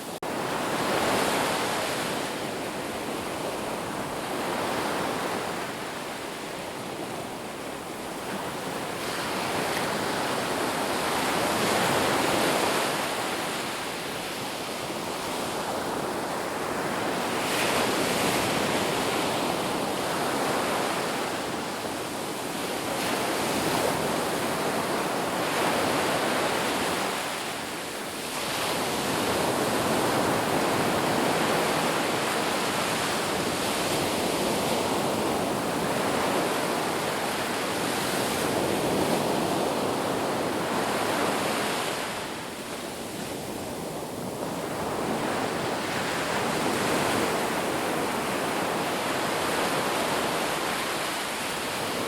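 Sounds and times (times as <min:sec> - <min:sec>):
surf washing on shore: 0:00.0 - 0:52.0.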